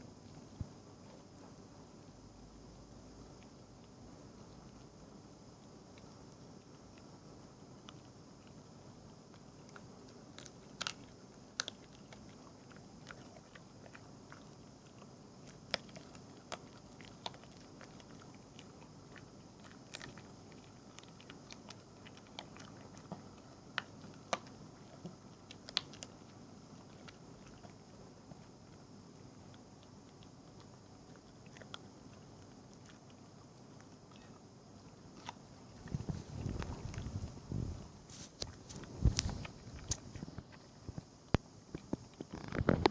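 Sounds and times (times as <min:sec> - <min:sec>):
small animal gnawing food: 0:03.0 - 0:42.9.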